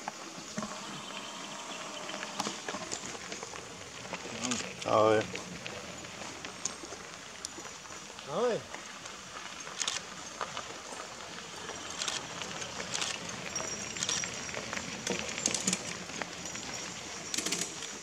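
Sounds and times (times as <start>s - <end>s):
tyres crunching on gravel: 0.0s - 18.0s.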